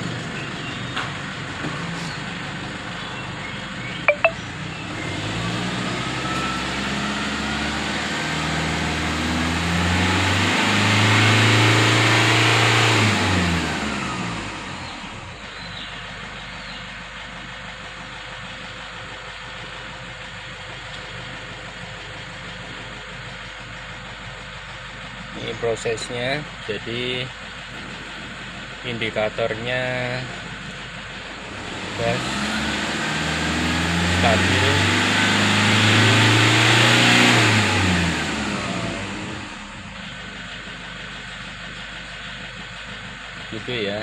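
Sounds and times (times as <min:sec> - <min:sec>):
diesel engine revving: 0:00.0 - 0:44.0.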